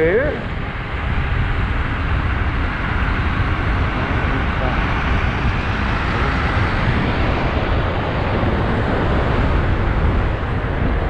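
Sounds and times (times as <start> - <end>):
road noise: 0.0 - 11.0
wind rush on microphone: 0.0 - 11.0.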